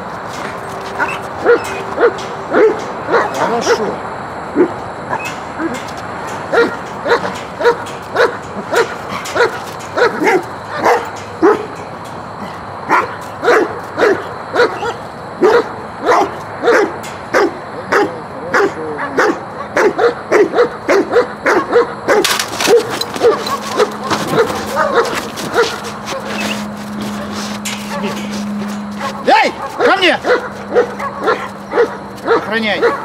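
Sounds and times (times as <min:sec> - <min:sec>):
dog barking: 0:01.0 - 0:04.0, 0:04.6 - 0:11.8, 0:12.9 - 0:33.0.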